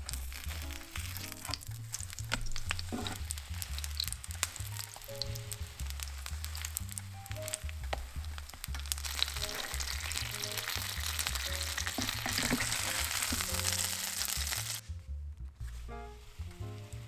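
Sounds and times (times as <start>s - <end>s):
oil sizzling in a frying pan: 0.0s - 14.8s.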